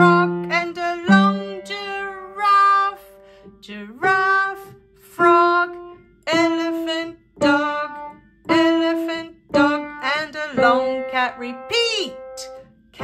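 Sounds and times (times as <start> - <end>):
person singing: 0.0 - 13.0
slow piano melody: 0.0 - 13.0.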